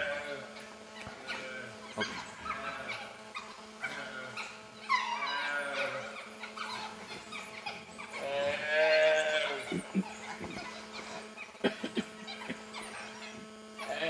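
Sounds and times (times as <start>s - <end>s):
animal calls: 0.0s - 14.0s.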